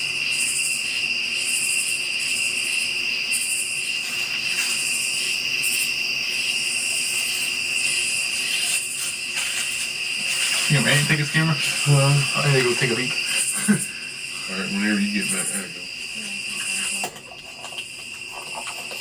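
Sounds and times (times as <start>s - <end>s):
crickets trilling: 0.0s - 19.0s
higher pulsing insect call: 0.0s - 19.0s.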